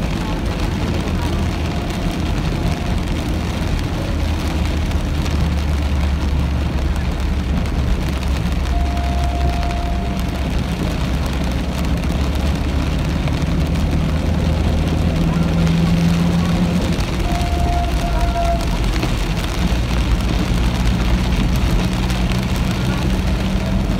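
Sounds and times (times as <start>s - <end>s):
car and tyres rumbling on wet road: 0.0s - 23.9s
rain beating on car windshield: 0.0s - 23.9s.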